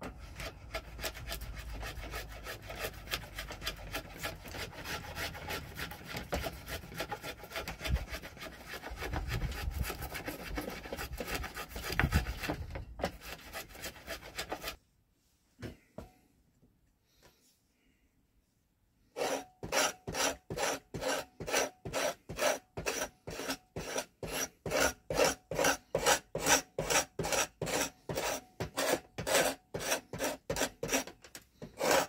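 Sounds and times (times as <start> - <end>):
rough scraping on wood: 0.0 - 14.8, 19.0 - 32.0.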